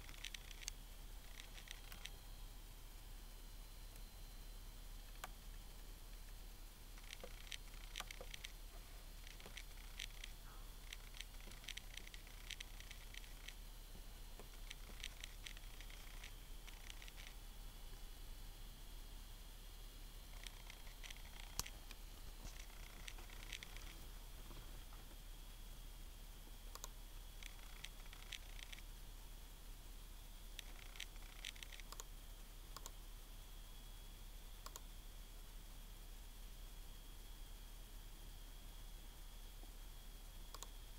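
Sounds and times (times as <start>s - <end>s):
faint high whine: 0.0s - 40.9s
steady background hum: 0.0s - 40.9s.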